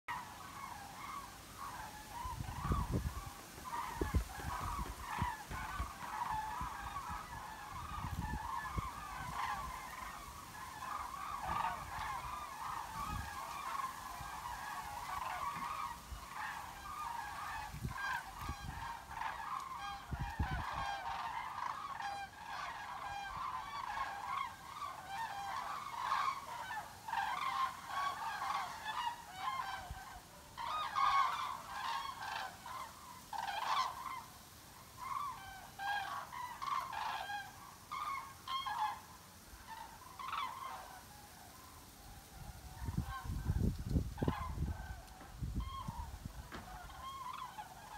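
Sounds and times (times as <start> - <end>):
cranes calling: 0.1 - 47.9.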